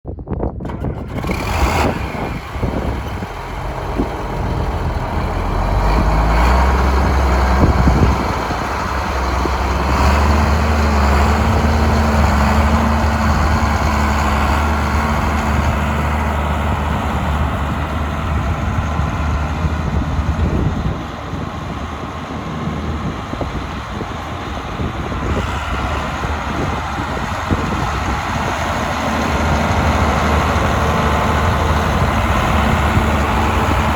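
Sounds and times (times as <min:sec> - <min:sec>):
heavy vehicle engine running: 0:00.4 - 0:33.9.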